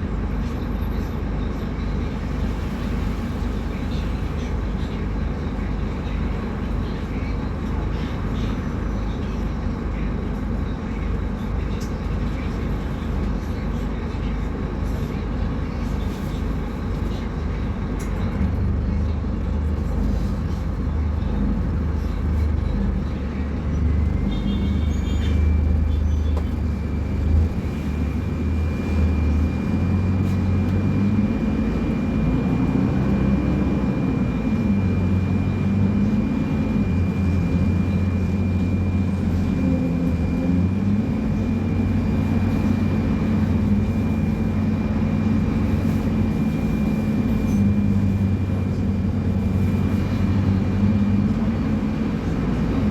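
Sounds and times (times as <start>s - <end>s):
bus engine running: 0.0s - 52.9s.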